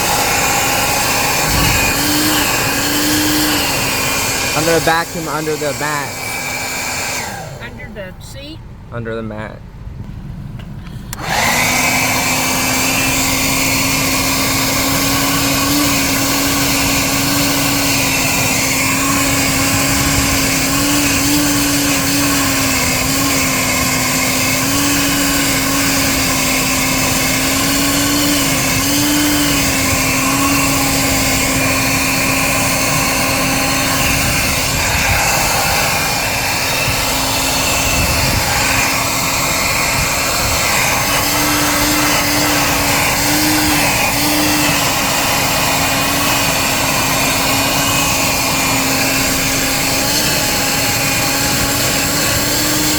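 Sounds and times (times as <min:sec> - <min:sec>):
car vacuum motor whine: 0:00.0 - 0:08.9, 0:09.7 - 0:52.9.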